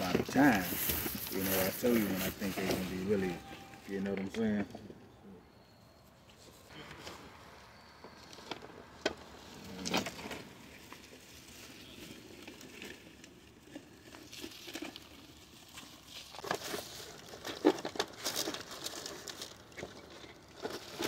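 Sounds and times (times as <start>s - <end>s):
plastic packaging crinkling: 0.0s - 4.4s, 8.3s - 21.0s.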